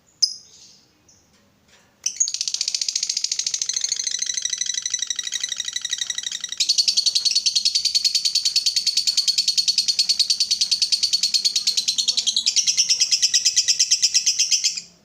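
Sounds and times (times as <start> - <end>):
lovebird chattering trill: 2.1 - 15.0.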